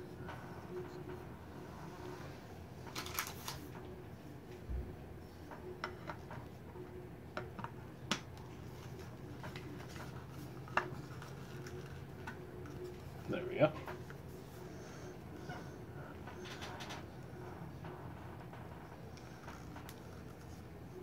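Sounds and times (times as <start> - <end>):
steady low hum: 3.6 - 21.0.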